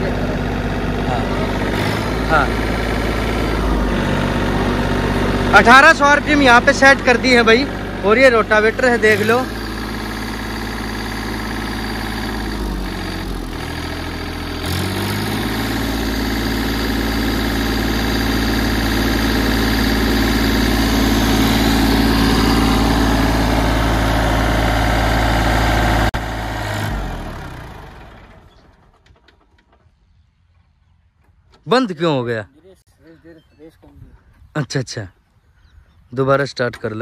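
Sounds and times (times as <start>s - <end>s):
tractor diesel engine running: 0.0s - 30.1s.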